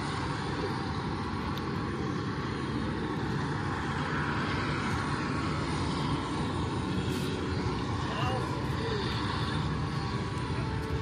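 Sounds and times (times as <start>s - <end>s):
aircraft engine rushing: 0.0s - 11.0s.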